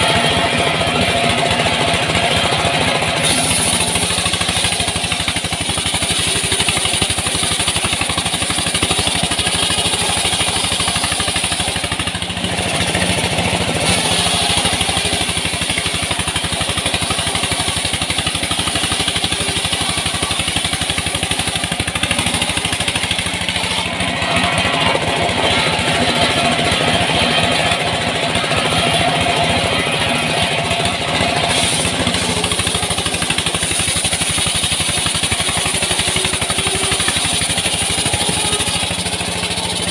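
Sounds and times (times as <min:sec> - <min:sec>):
engine-driven saw cutting wood: 0:00.0 - 0:39.9.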